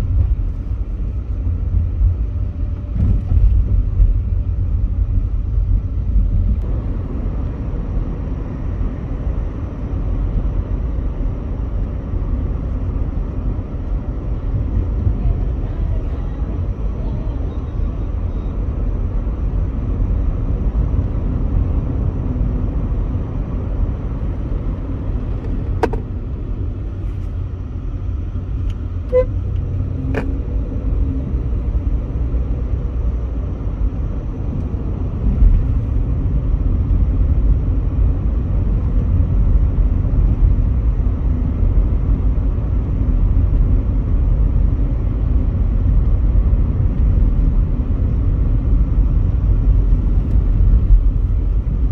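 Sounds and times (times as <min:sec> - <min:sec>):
engine and road rumble in car: 0:00.0 - 0:51.9.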